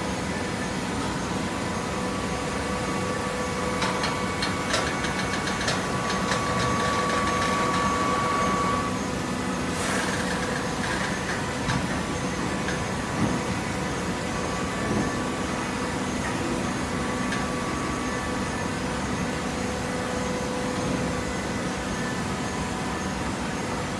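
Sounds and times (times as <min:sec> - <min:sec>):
hydraulic pump hum and whine: 0:00.0 - 0:23.9.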